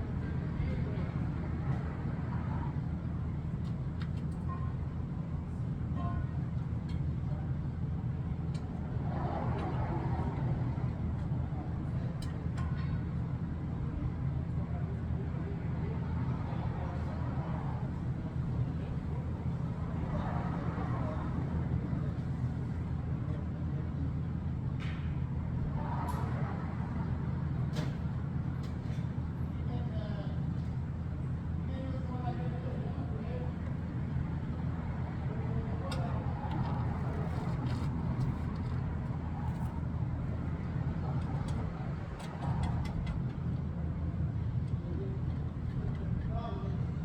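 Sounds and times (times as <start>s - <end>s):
low mechanical engine drone: 0.0s - 47.0s.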